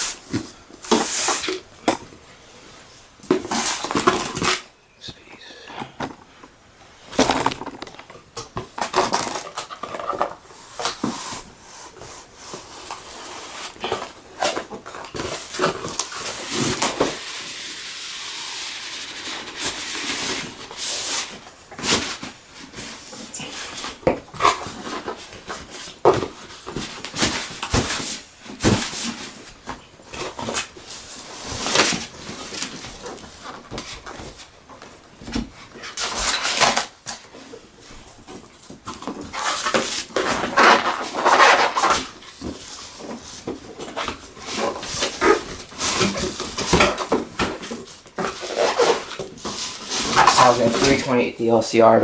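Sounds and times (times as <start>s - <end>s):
packaging rustling and scraping: 0.0s - 4.7s, 6.9s - 51.4s.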